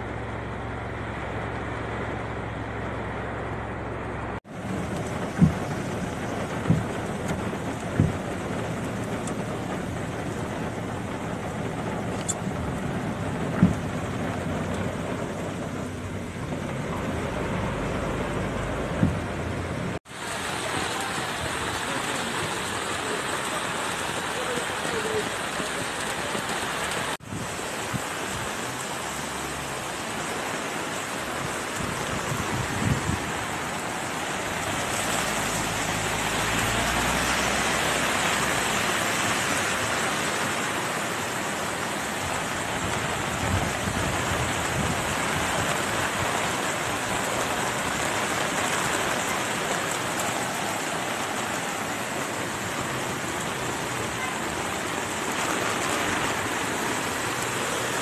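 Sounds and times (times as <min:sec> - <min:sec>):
heavy rain: 0:00.0 - 0:58.0
floodwater rushing down a drain: 0:04.4 - 0:19.3, 0:19.9 - 0:58.0.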